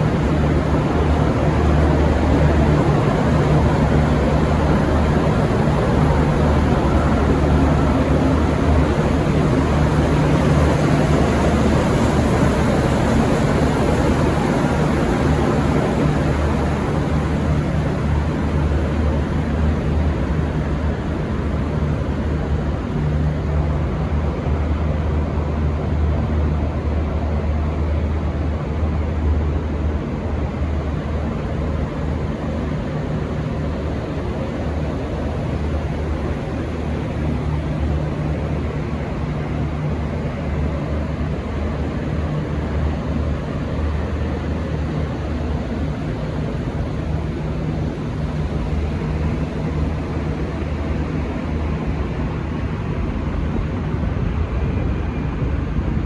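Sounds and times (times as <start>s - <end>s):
diesel train engines rumbling: 0.0s - 56.0s.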